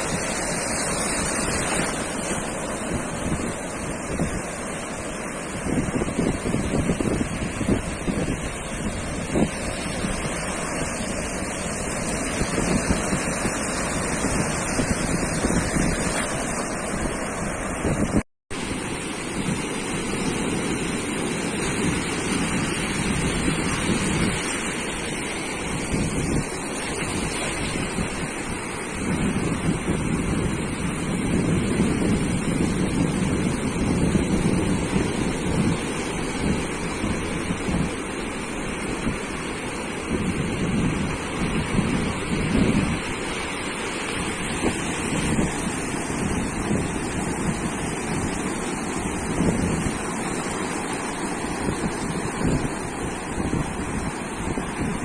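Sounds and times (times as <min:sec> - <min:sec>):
surf washing onto sandy beach: 0:00.0 - 0:55.0
wind buffeting microphone: 0:00.0 - 0:55.0.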